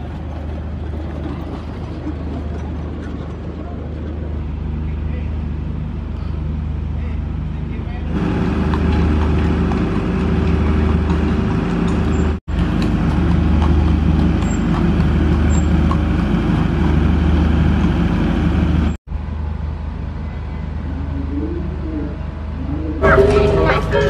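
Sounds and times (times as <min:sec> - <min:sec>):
road noise: 0:00.0 - 0:24.0
vehicle engine drone: 0:00.0 - 0:24.0.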